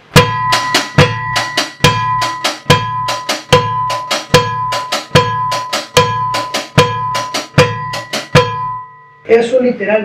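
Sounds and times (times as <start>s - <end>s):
hi-hat strokes: 0.0s - 8.8s
bass drum: 0.0s - 9.0s
cowbell ringing: 0.0s - 9.3s.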